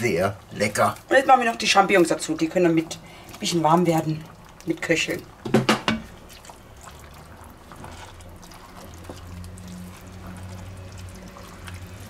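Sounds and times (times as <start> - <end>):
spoon stirring thick sauce: 0.0 - 12.0.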